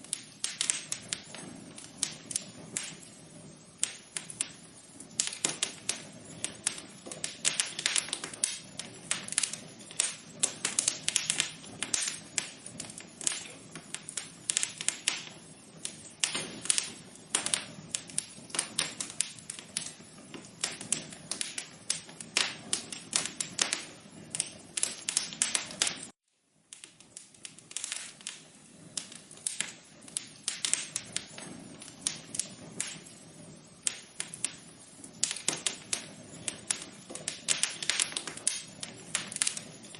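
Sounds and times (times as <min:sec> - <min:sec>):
fire crackling and popping: 0:00.0 - 0:39.9
low steady hiss: 0:00.0 - 0:39.9.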